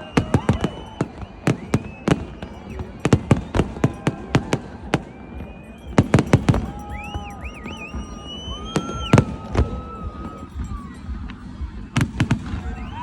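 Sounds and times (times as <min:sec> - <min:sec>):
fireworks banging: 0:00.0 - 0:13.0
high whistling tones: 0:00.0 - 0:13.0.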